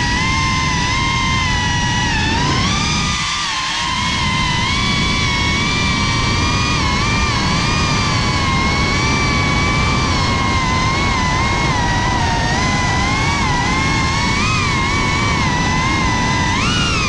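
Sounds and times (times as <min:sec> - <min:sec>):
drone propellers whining: 0:00.0 - 0:17.0
low rushing of air: 0:00.0 - 0:17.0.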